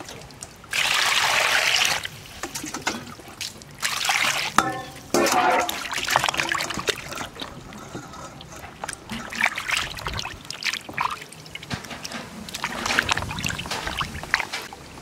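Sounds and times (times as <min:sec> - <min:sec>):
water splashing in a basin: 0:00.0 - 0:14.9.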